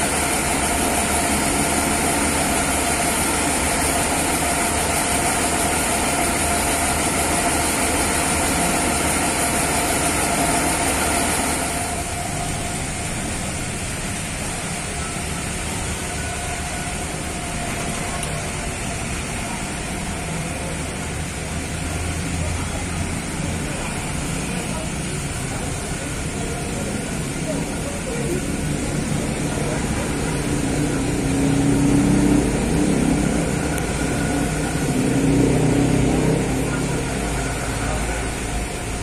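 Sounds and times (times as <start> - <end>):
coach engine idling: 0.0 - 39.0
distant coach engine running: 0.0 - 39.0.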